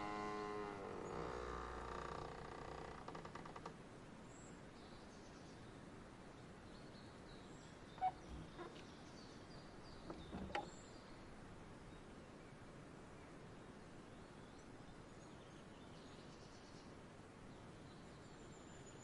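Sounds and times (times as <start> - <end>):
soft steady hiss: 0.0 - 19.0.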